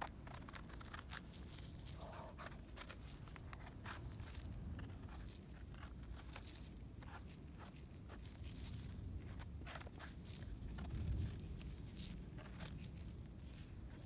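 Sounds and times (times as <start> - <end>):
knife scraping mushroom stem: 0.0 - 14.0.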